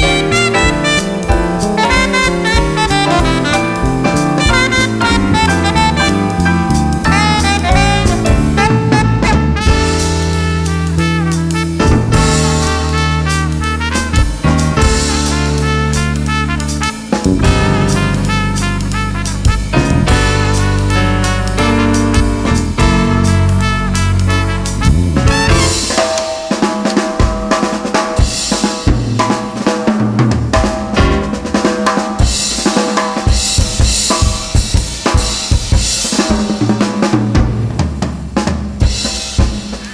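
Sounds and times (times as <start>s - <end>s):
drum kit playing: 0.0s - 39.9s
jazz band playing swing: 0.0s - 39.9s.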